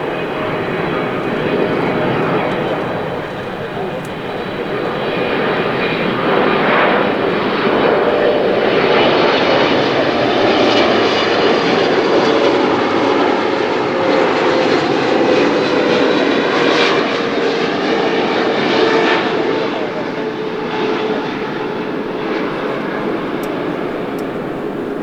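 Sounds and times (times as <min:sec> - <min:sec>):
jet engines rumbling with whine: 0:00.0 - 0:25.0.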